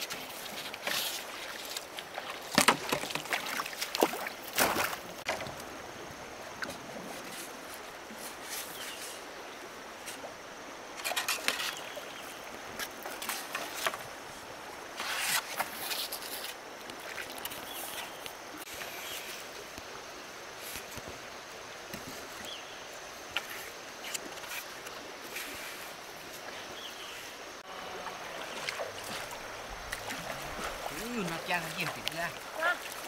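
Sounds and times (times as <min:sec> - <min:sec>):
splashing and rustling: 0:00.0 - 0:05.8, 0:06.5 - 0:19.9, 0:20.5 - 0:33.0
stream water running: 0:00.0 - 0:33.0.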